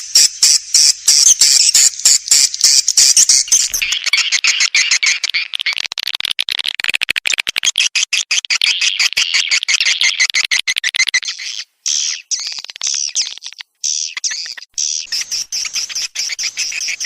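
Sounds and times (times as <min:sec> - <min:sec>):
rapid high bird twittering: 0:00.0 - 0:05.8, 0:07.7 - 0:17.0.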